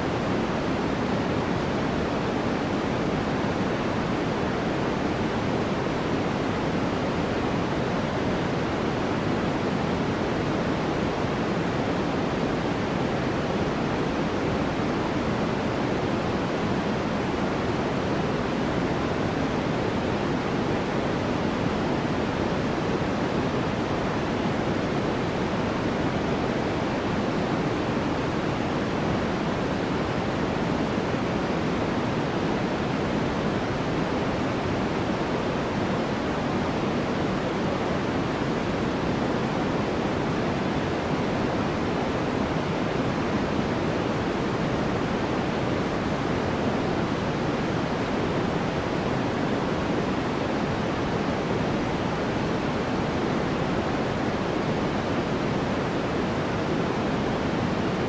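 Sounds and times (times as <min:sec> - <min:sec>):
deep steady white noise: 0:00.0 - 0:58.0.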